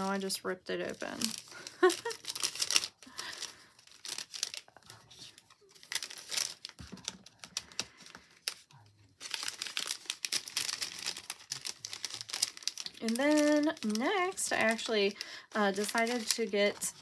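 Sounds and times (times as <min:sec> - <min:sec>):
plastic sleeve crinkling: 0:00.0 - 0:17.0.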